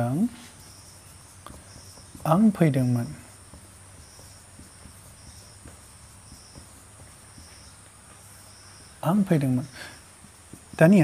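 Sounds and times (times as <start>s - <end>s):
insects chirping: 0.0s - 11.0s
steady hiss: 0.0s - 11.0s.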